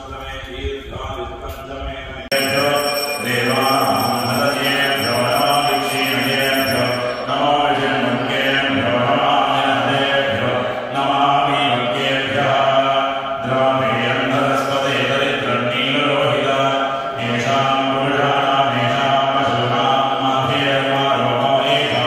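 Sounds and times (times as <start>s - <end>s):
devotional chanting: 0.0s - 22.0s.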